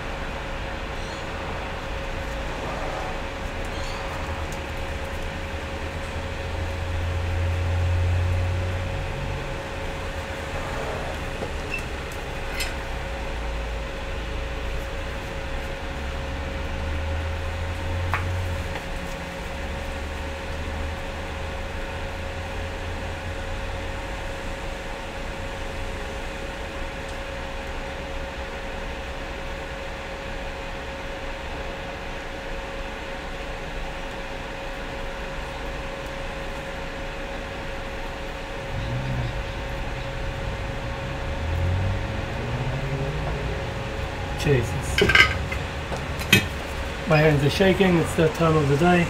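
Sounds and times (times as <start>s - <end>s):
fan hum with whine: 0.0s - 49.0s.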